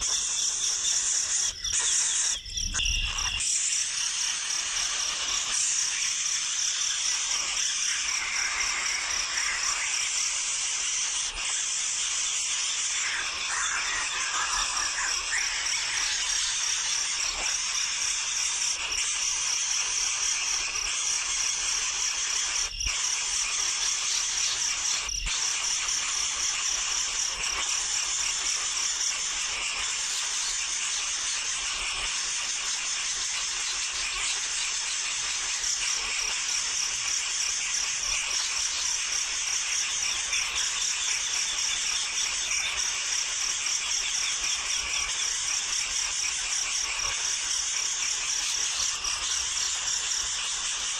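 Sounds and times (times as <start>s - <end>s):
baby birds chirping: 0.0s - 50.9s.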